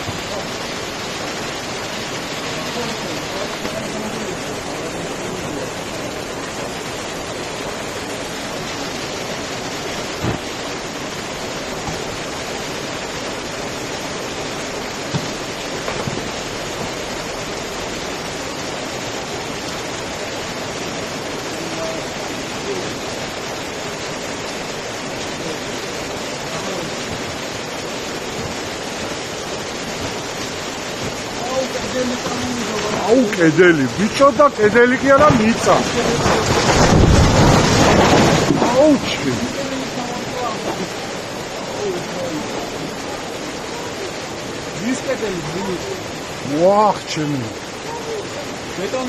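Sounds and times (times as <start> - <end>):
floodwater running: 0.0 - 49.0
heavy rain downpour: 0.0 - 49.0.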